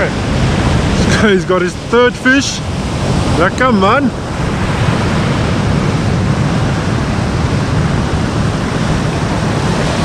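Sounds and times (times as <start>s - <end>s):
surf rushing: 0.0s - 10.0s
wind: 0.0s - 10.0s.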